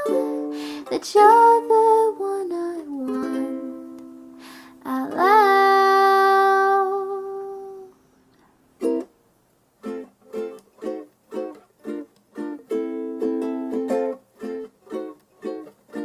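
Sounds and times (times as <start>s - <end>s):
strummed ukulele chords: 0.0s - 7.8s, 8.8s - 9.1s, 9.8s - 16.0s.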